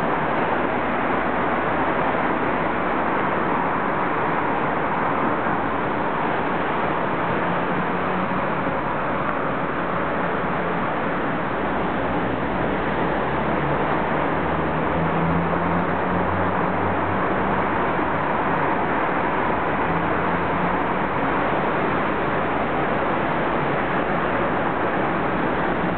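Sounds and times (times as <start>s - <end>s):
street traffic passing: 0.0s - 25.9s.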